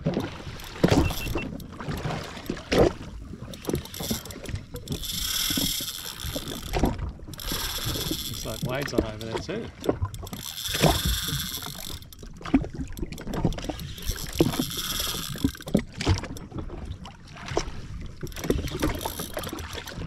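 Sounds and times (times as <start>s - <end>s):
small waves slapping against hull: 0.0s - 20.0s.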